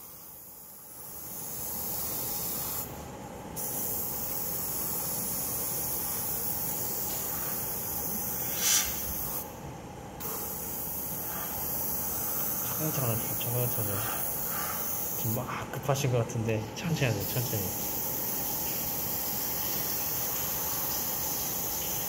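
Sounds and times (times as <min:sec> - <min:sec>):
airbrush hissing: 0:00.0 - 0:03.0, 0:03.6 - 0:09.5, 0:10.2 - 0:15.4, 0:17.2 - 0:22.0.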